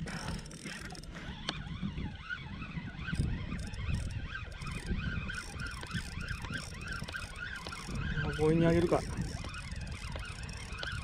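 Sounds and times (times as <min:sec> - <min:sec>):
fishing reel gears whining: 0:00.0 - 0:11.0
wind and water rumble: 0:00.0 - 0:11.0.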